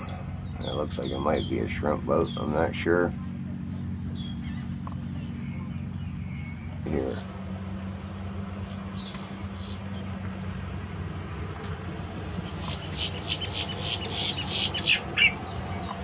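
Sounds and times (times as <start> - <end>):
bird chirping: 0.0 - 10.2, 12.4 - 16.0
steady low hum: 0.0 - 16.0.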